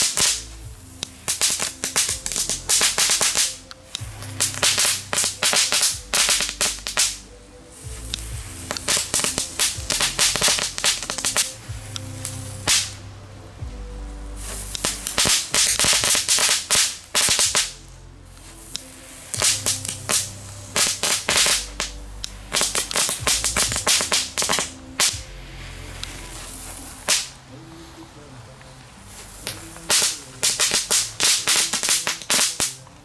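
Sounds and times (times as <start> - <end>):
firecrackers cracking: 0.0 - 33.0.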